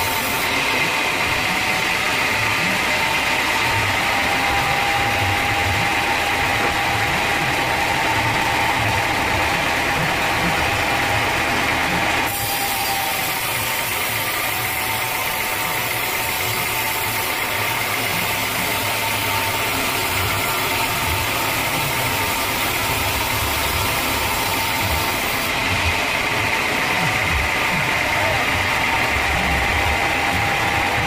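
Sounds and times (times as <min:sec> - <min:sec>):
band saw cutting log: 0:00.0 - 0:31.0.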